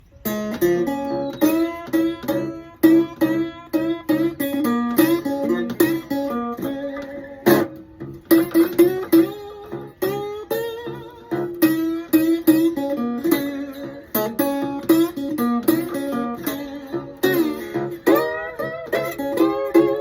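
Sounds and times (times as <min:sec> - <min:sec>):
blues guitar riff: 0:00.0 - 0:20.0.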